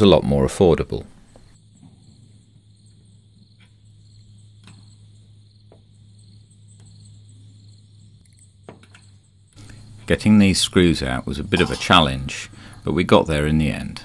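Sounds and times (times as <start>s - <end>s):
crickets chirping: 0.8s - 14.0s.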